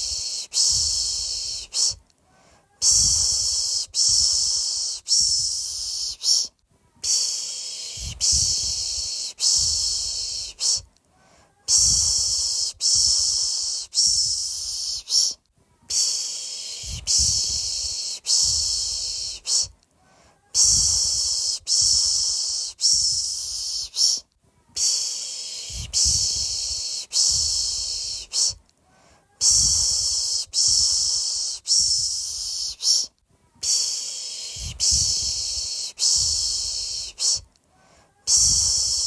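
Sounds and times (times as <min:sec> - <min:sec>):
person shushing a baby: 0:00.0 - 0:28.6, 0:29.2 - 0:39.0.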